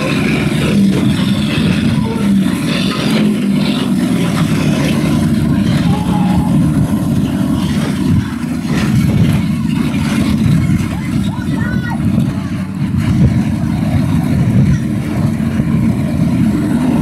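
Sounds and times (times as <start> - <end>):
heavy diesel engines rumbling: 0.0 - 17.0.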